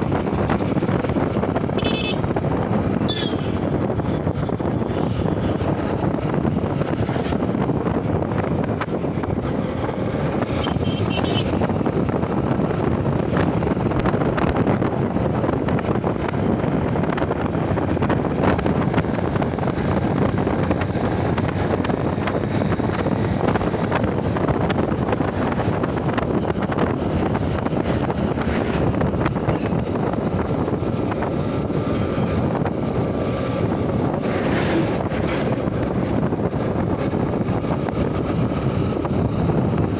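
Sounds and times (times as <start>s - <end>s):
motorcycle engine and road noise: 0.0s - 39.9s
wind rush on microphone: 0.0s - 39.9s.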